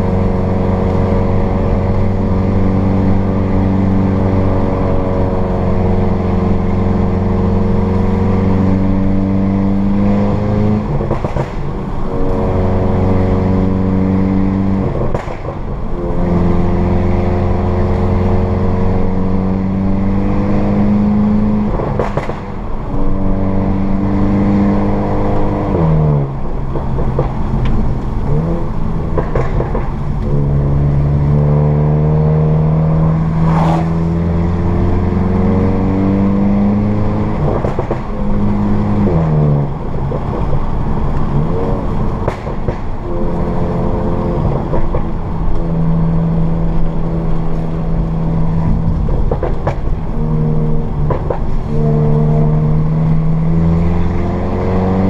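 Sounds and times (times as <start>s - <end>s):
car engine droning under load: 0.0s - 55.0s.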